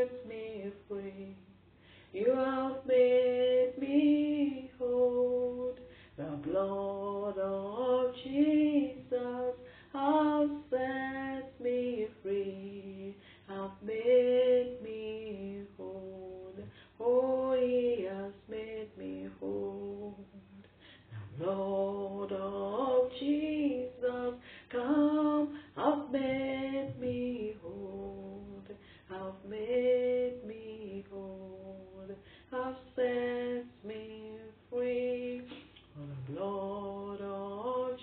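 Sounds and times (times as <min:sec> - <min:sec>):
woman singing unaccompanied: 0:00.0 - 0:38.0.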